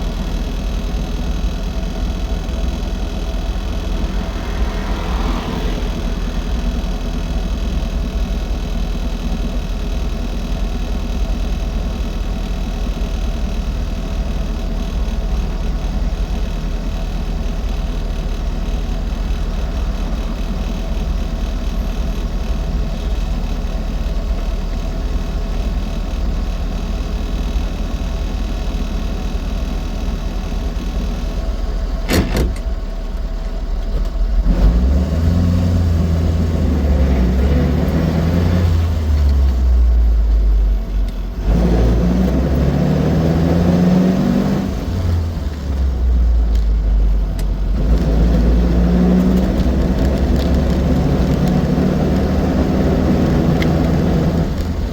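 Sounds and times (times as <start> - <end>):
car engine driving: 0.0 - 54.9.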